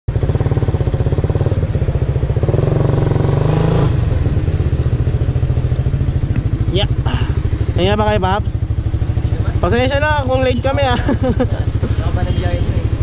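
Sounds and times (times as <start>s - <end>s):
motorcycle engine running: 0.1s - 13.0s.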